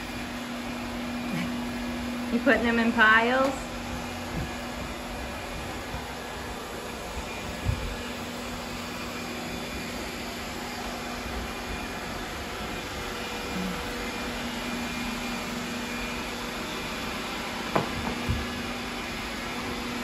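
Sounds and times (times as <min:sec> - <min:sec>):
robot vacuum whirring: 0:01.9 - 0:20.0.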